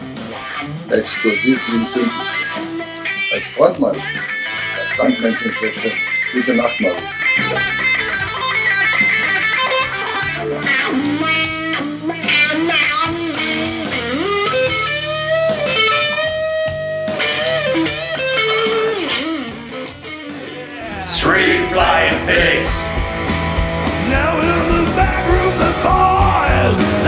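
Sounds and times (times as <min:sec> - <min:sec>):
electric guitar rock lead: 0:00.0 - 0:27.0.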